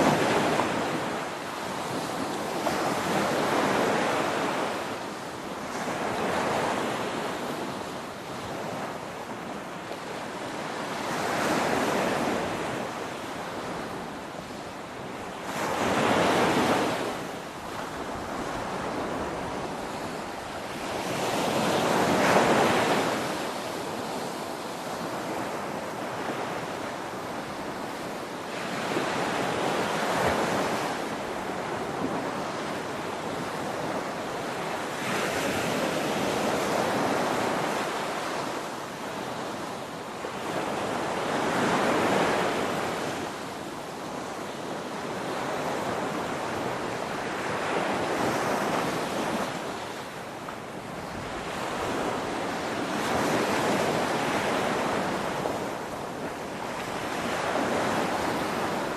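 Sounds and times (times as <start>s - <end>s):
waves breaking on shore: 0.0s - 58.9s.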